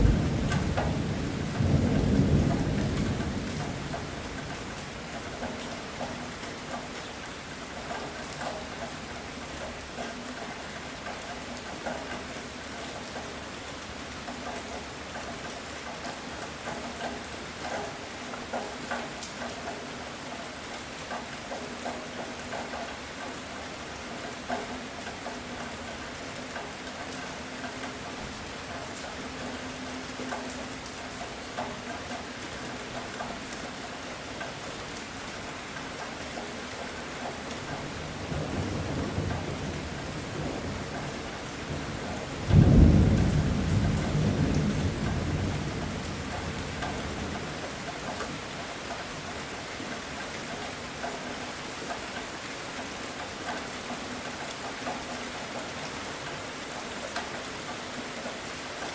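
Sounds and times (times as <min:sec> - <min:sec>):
heavy rain pattering: 0:00.0 - 0:58.9.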